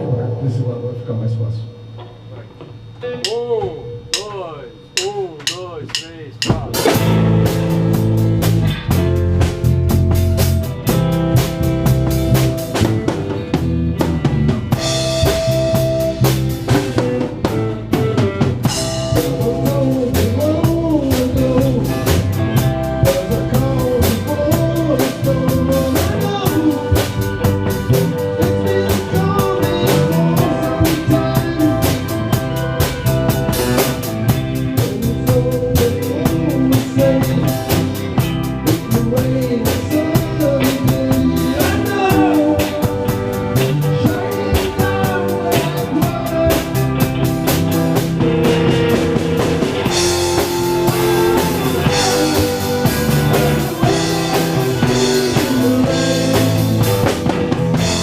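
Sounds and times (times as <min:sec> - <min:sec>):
rock band playing: 0:02.0 - 0:58.0.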